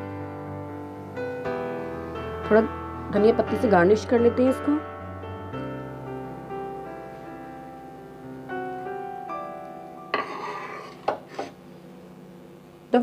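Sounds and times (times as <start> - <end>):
background piano music: 0.0 - 11.5.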